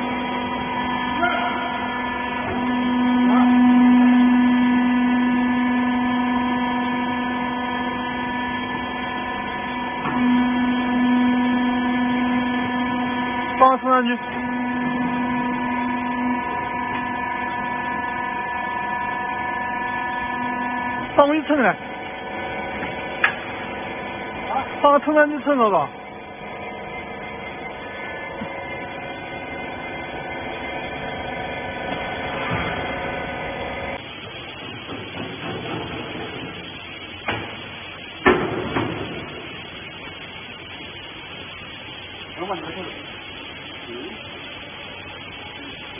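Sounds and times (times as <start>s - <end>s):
motor and hydraulic pump humming: 0.0s - 45.9s.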